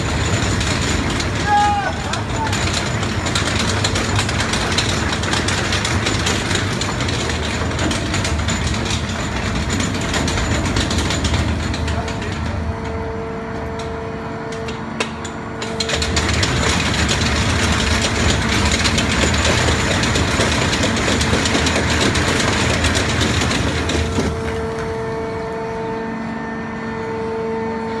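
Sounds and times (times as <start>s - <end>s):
machine droning hum: 0.0s - 28.0s.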